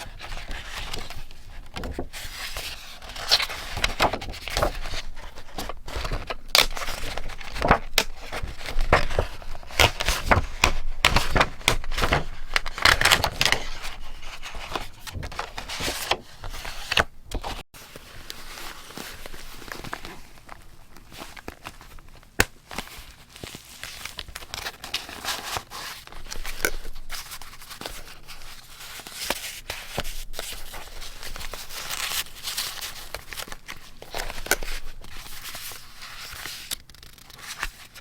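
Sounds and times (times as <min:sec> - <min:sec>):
paper rustling and crinkling: 0:00.0 - 0:38.0.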